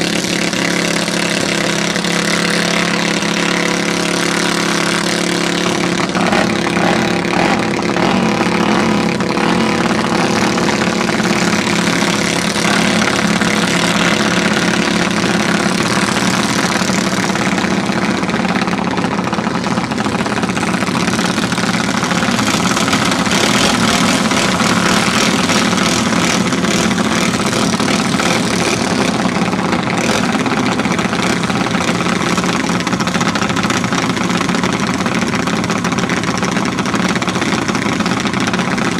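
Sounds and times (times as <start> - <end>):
racing kart engines: 0.0 - 38.9.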